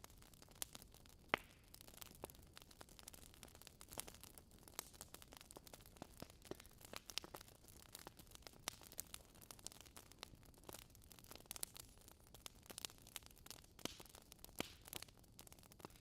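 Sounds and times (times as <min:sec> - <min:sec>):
wood logs crackling: 0:00.1 - 0:16.0.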